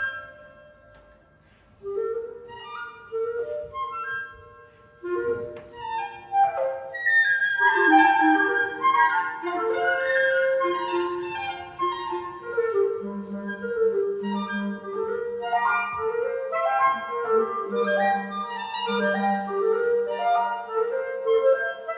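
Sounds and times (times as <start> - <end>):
low clarinet held notes: 0.0 - 21.9
woodwind trio playing: 1.7 - 21.9.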